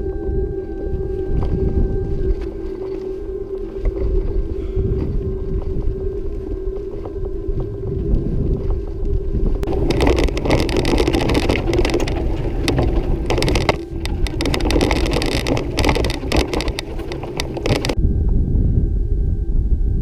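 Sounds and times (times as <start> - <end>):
low rumble: 0.0 - 20.0
bike tyres crunching on rocks: 1.3 - 18.0
bike rattling: 1.4 - 18.0.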